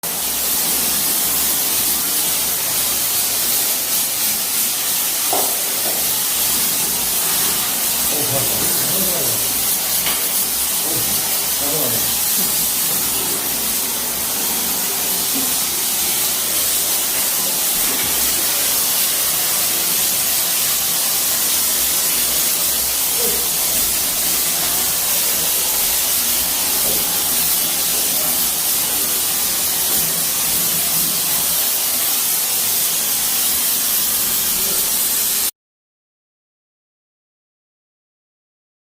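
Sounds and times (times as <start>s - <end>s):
steady hissing spray: 0.1s - 35.5s.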